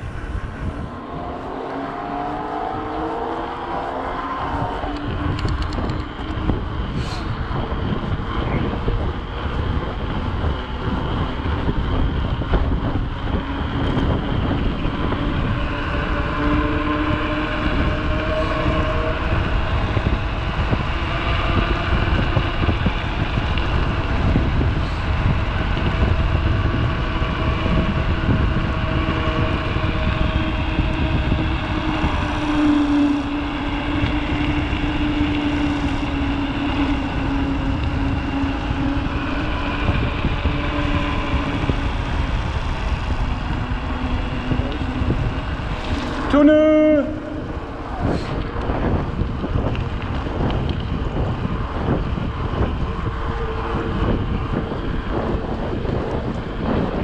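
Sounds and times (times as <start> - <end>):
knobby tyres humming: 0.0 - 57.0
wind rushing over microphone: 0.0 - 57.0.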